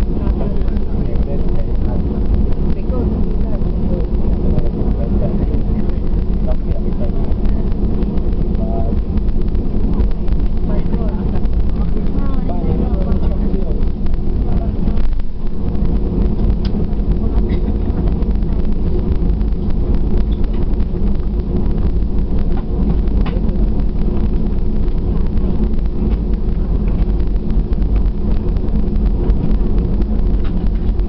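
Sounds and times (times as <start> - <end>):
aircraft engine rumble: 0.0 - 31.0
cabin air whoosh: 0.0 - 31.0.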